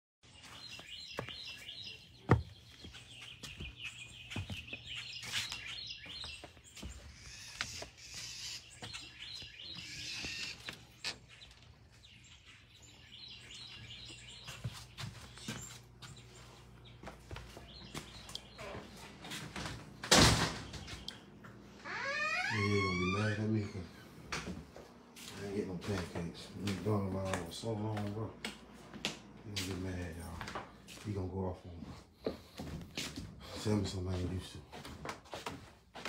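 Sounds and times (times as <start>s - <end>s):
songbirds chirping: 0.2s - 36.0s.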